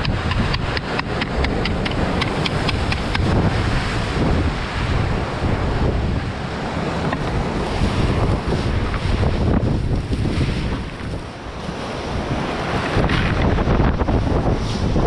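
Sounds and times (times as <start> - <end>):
sea surf rushing: 0.0 - 15.0
wind buffeting microphone: 0.0 - 15.0.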